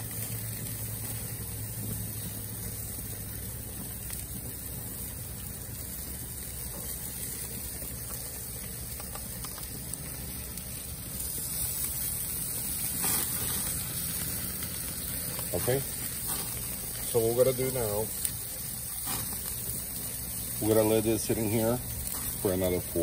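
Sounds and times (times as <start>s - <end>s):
meat sizzling on a grill: 0.0s - 23.0s.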